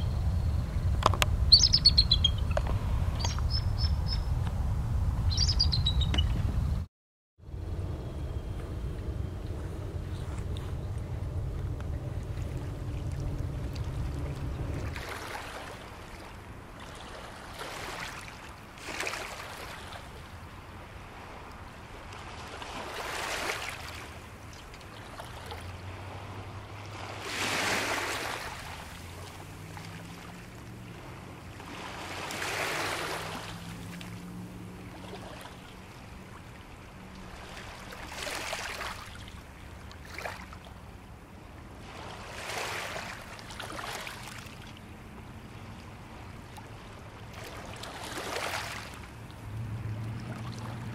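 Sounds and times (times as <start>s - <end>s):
small waves washing onto shore: 9.5s - 50.9s.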